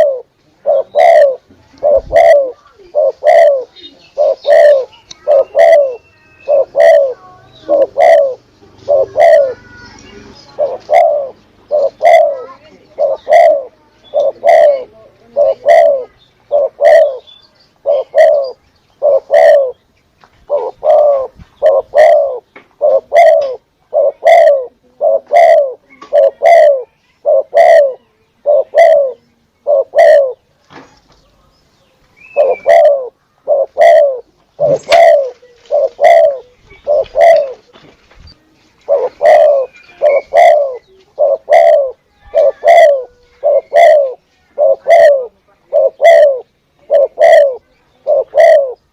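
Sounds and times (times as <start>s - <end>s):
dove cooing: 0.0s - 19.8s, 20.5s - 30.5s, 32.2s - 37.8s, 38.7s - 48.9s.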